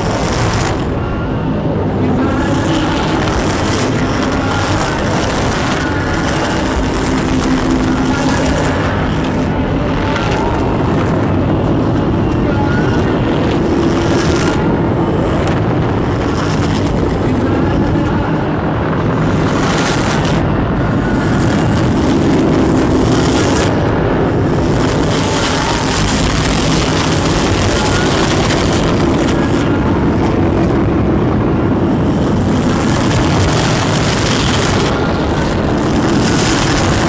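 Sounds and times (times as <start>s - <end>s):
low droning tones: 0.0s - 37.0s
noise music rumble and hiss: 0.0s - 37.0s.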